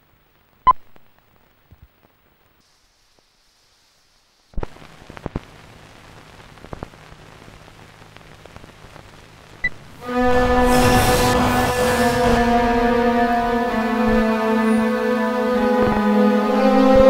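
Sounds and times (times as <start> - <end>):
film soundtrack crackle and hiss: 0.0 - 17.0.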